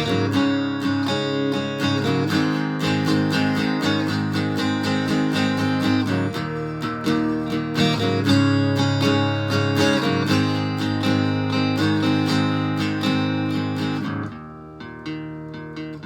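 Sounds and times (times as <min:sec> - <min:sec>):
distorted acoustic guitar strumming: 0:00.0 - 0:16.0.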